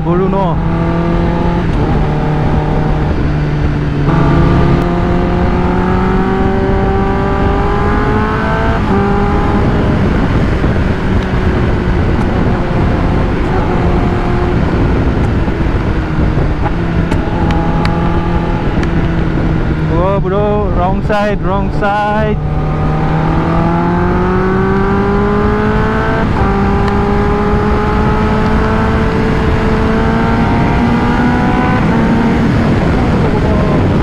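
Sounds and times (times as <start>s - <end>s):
motorcycle engine accelerating: 0.0s - 34.0s
wind rush: 0.0s - 34.0s.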